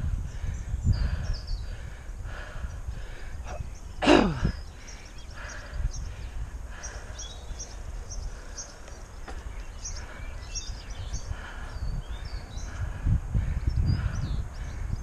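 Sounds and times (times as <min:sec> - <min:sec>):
small birds chirping: 0:00.0 - 0:15.0
wind and road rumble: 0:00.0 - 0:15.0.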